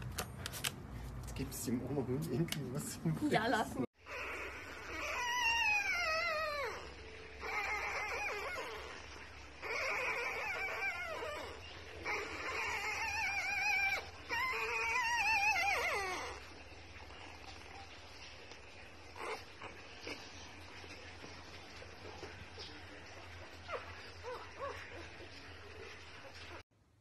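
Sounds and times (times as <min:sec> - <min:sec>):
puppy crying: 0:03.9 - 0:18.0, 0:18.8 - 0:26.6.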